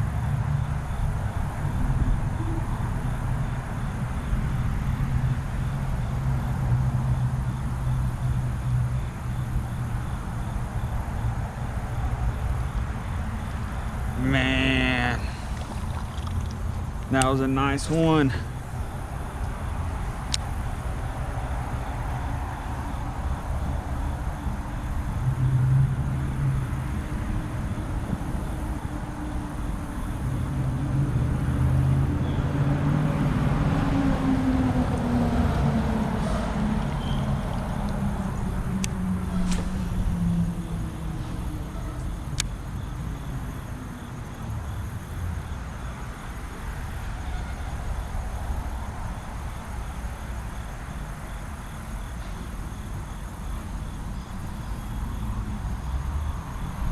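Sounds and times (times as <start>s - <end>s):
passing vehicle engine hum: 0.0s - 56.9s
traffic rumble: 0.0s - 56.9s.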